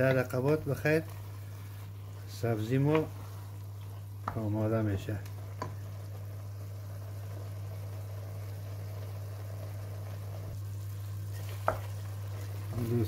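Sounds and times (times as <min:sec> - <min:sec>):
pot bubbling: 0:00.0 - 0:13.0
steady low hum: 0:00.0 - 0:13.0.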